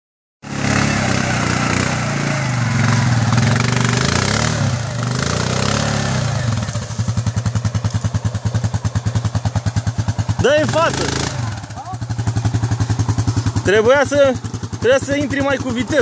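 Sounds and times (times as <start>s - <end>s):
atv engine running: 0.4s - 16.0s.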